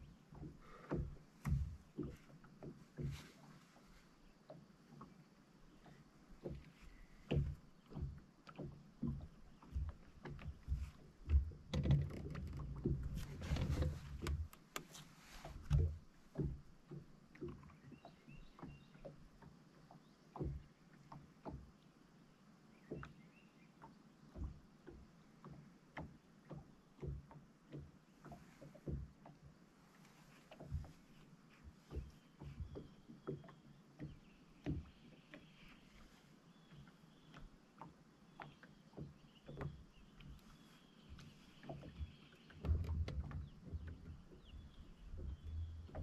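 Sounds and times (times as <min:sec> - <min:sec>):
waves slapping against boat hull: 0:00.0 - 0:21.9, 0:22.7 - 0:46.0.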